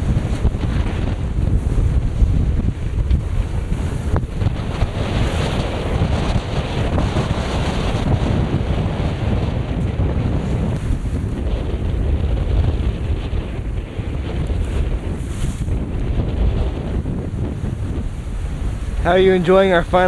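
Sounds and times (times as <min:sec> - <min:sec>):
waves and water along hull: 0:00.0 - 0:20.0
wind buffeting microphone: 0:00.0 - 0:20.0.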